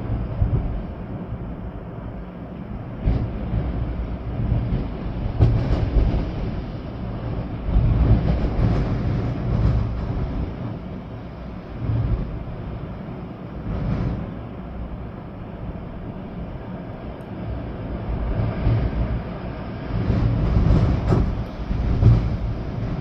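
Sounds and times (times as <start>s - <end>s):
rain: 0.0s - 23.0s
storm wind gusting through trees: 0.0s - 23.0s
wind buffeting microphone: 0.0s - 23.0s.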